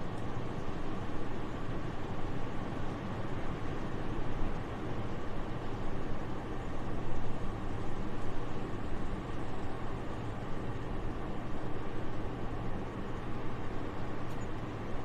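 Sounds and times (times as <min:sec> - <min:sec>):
soft steady wind: 0:00.0 - 0:15.0.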